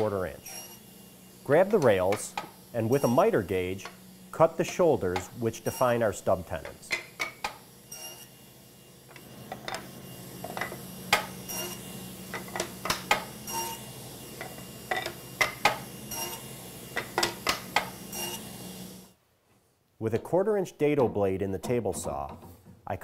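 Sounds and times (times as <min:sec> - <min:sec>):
table saw humming: 0:00.0 - 0:19.2.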